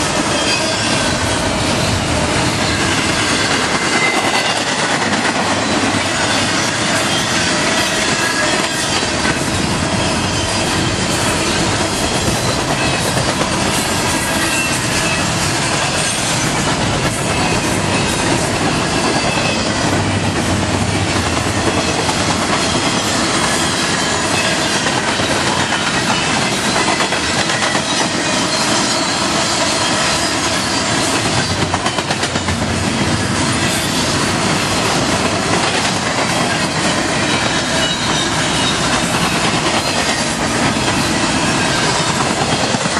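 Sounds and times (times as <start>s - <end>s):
high wheel squeal: 0.0s - 4.8s, 5.6s - 20.0s, 21.7s - 31.6s, 36.4s - 42.9s
train wheels on rail clickety-clack: 0.0s - 42.9s.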